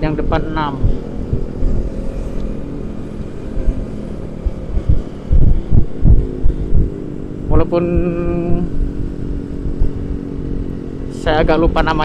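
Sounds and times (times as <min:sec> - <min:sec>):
scooter engine running: 0:00.0 - 0:12.0
wind buffeting microphone: 0:00.0 - 0:12.0.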